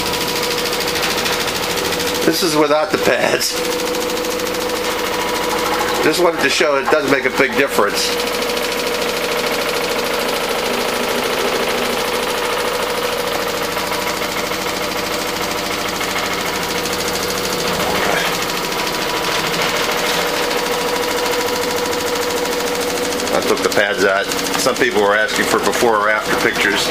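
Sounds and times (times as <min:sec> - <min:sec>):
washing machine spinning: 0:00.0 - 0:26.9.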